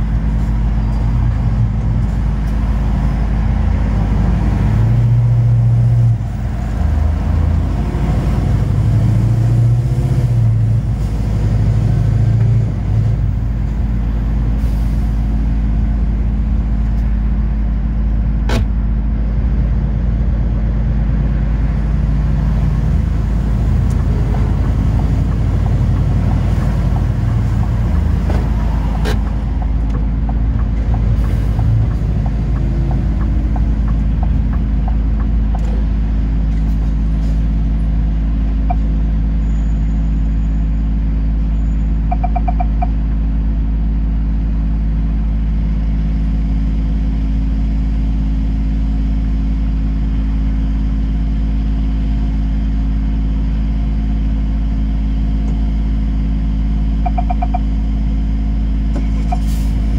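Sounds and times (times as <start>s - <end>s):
road rumble: 0.0s - 59.9s
vehicle engine drone: 0.0s - 59.9s.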